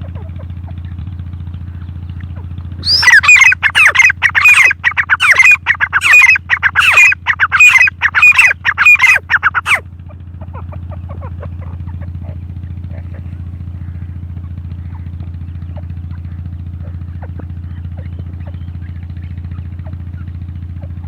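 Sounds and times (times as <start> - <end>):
faint short bird calls: 0.0 - 21.0
low pulsing engine drone: 0.0 - 21.0.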